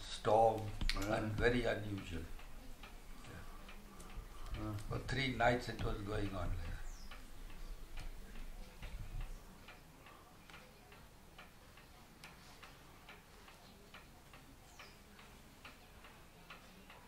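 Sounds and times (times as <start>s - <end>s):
mechanical clock ticking: 0.0s - 17.0s.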